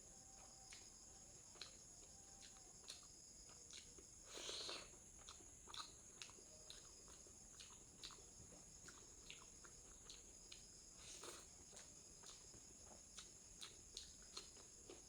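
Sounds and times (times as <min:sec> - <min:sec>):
wet chewing clicks: 0:02.4 - 0:15.0.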